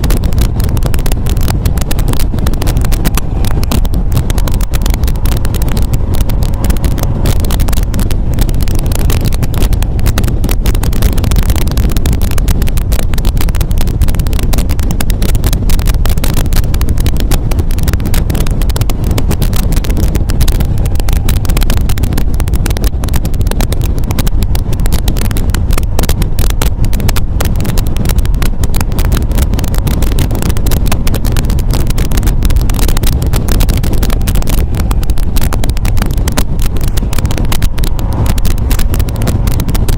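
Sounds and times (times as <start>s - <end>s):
car engine and road rumble: 0.0s - 39.9s
wind buffeting microphone: 0.0s - 39.9s.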